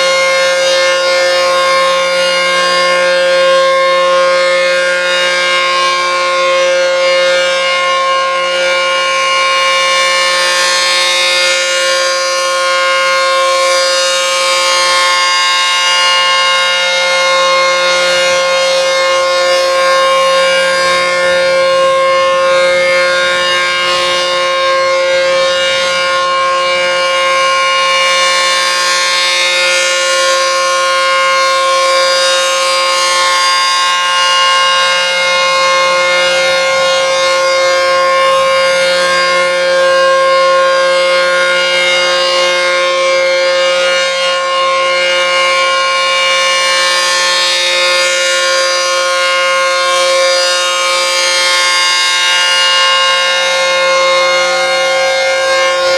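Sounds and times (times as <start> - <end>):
warning siren alert tone: 0.0 - 55.9.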